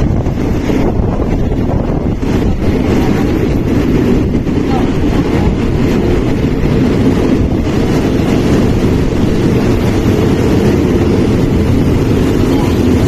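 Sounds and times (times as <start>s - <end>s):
train wheels rumbling on rail: 0.0s - 13.0s
wind buffeting microphone: 0.0s - 13.0s.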